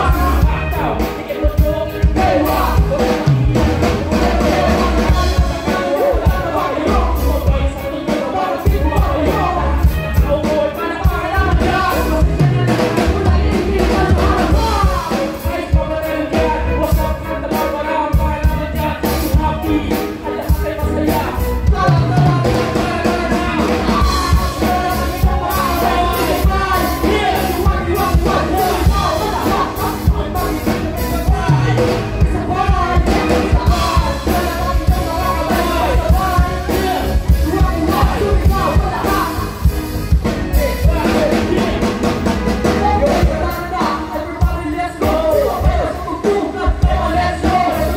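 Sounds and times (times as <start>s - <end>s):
drum kit beat: 0.0s - 47.9s
keyboard playing: 0.0s - 47.9s
people rapping into microphones: 0.0s - 47.9s.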